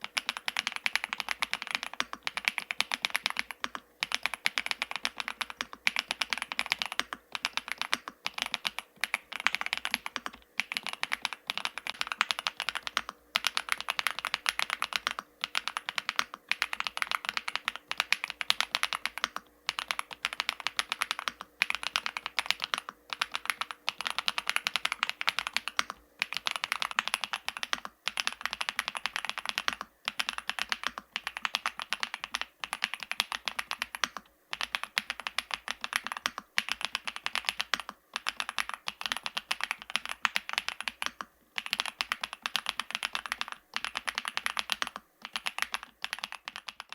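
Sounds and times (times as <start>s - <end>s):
mechanical keyboard typing: 0.0s - 46.9s.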